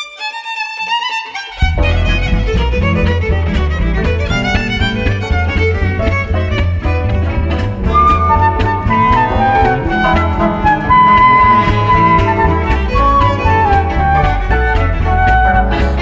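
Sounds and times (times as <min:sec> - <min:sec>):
violin playing tune: 0:00.0 - 0:16.0
band low pulsing accompaniment: 0:01.6 - 0:16.0.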